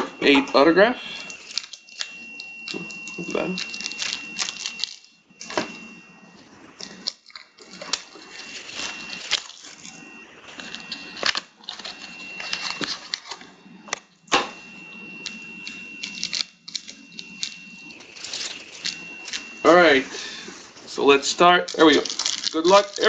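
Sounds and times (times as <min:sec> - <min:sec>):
foil packs crinkling: 0:01.1 - 0:05.7, 0:06.8 - 0:13.5, 0:15.2 - 0:23.0.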